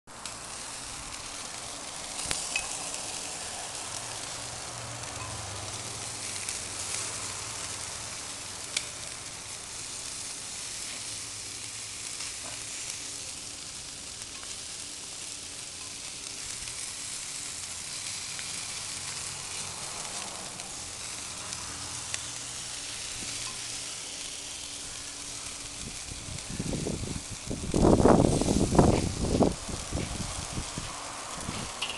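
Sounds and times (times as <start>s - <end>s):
meat sizzling on a grill: 0.1s - 31.9s.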